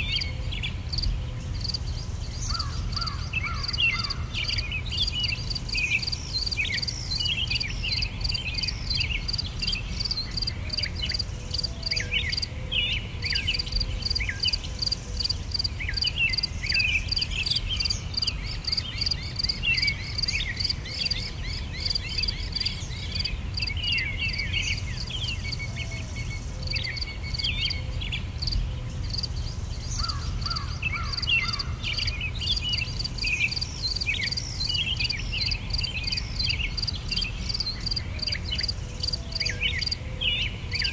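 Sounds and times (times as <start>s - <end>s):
insects calling: 0.0s - 40.9s.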